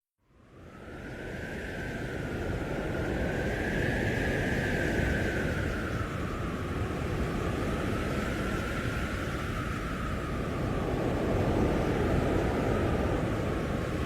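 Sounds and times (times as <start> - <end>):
blizzard wind blowing hard: 0.4 - 14.0.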